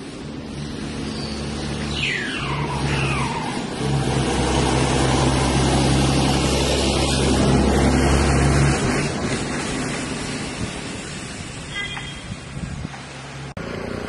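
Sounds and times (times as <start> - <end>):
vehicle engine running: 0.0 - 11.6
tyre and road noise: 0.0 - 14.0.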